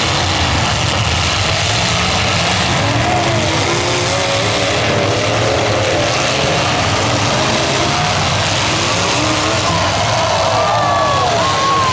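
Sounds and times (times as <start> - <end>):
car engines revving: 0.0 - 11.9.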